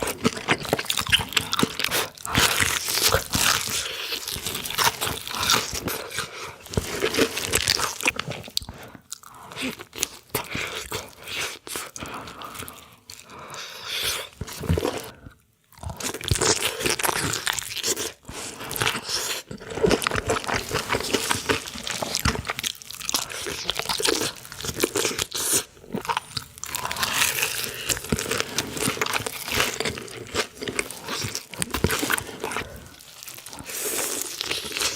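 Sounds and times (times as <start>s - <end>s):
crunchy chewing and biting: 0.0s - 34.9s.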